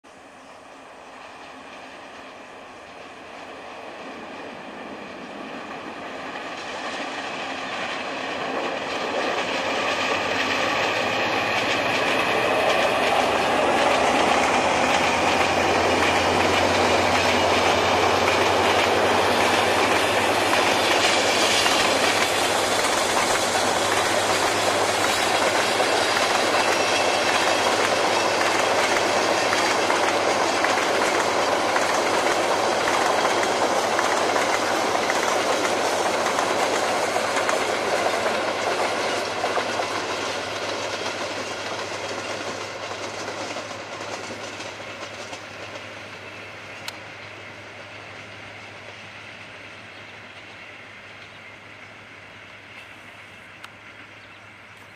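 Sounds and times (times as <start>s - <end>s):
passenger train passing: 0.0s - 54.9s
wheels clickety-clack over rail joints: 1.1s - 54.9s.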